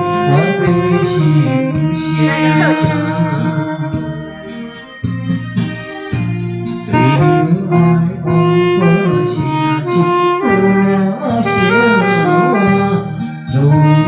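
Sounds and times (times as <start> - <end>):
backing band: 0.0 - 14.0
saxophone melody: 0.0 - 14.0.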